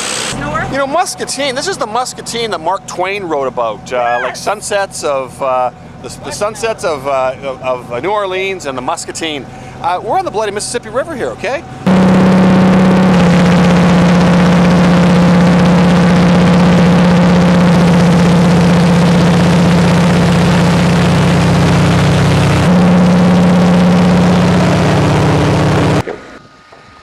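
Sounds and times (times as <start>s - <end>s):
plane engine and propeller drone: 0.0s - 27.0s.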